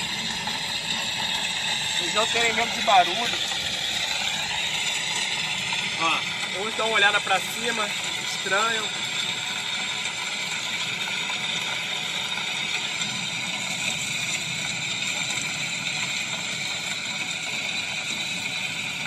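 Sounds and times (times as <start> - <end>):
machine noise from loudspeaker: 0.0 - 19.0.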